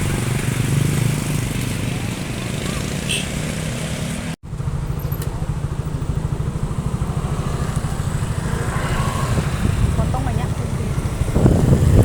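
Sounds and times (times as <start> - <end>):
vehicle engine throbbing: 0.0 - 12.0.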